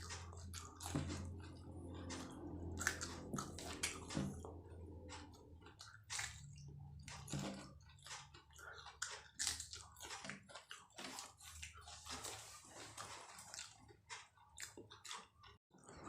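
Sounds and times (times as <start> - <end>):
person biting and chewing: 0.0 - 4.2, 5.6 - 15.6.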